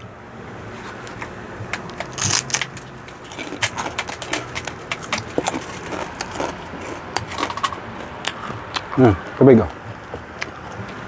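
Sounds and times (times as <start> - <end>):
crunchy pork rind chewing: 0.7 - 11.0.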